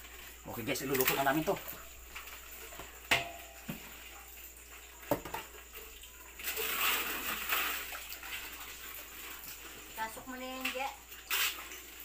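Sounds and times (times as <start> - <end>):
water splashing in a metal basin: 0.0 - 12.0.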